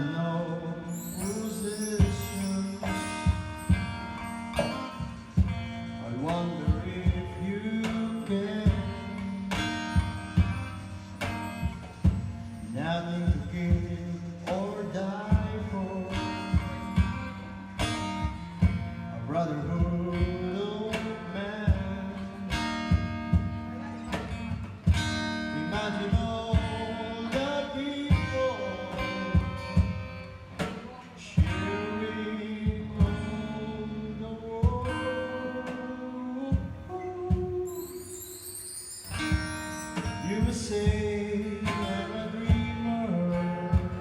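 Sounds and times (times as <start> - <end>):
song with acoustic guitar: 0.0 - 44.0.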